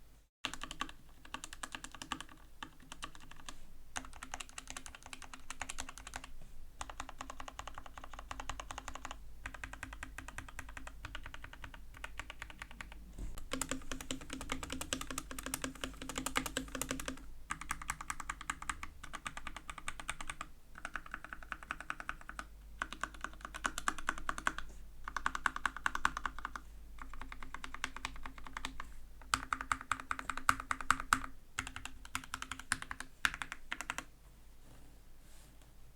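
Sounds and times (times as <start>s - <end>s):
mechanical keyboard typing: 0.4s - 34.1s.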